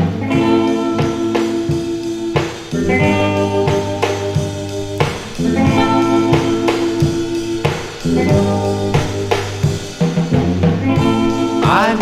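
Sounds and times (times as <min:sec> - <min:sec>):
bass guitar: 0:00.0 - 0:12.0
drum kit beat: 0:00.0 - 0:12.0
electric guitar chords: 0:00.0 - 0:12.0.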